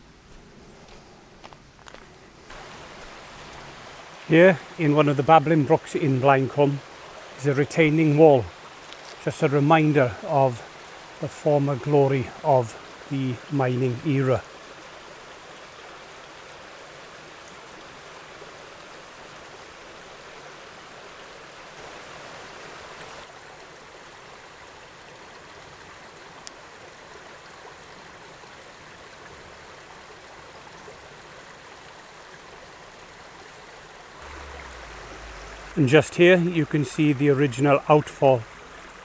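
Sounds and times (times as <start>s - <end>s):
brook flowing over stones: 0.1s - 39.0s.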